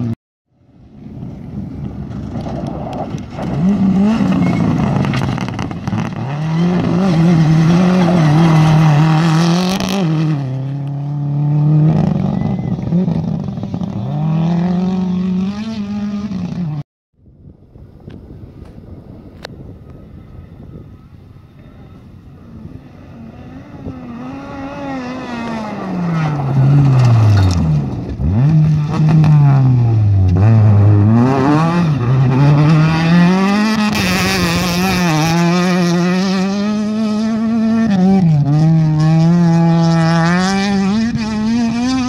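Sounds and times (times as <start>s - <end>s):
rally car engine revving: 1.4s - 16.8s, 21.0s - 42.0s.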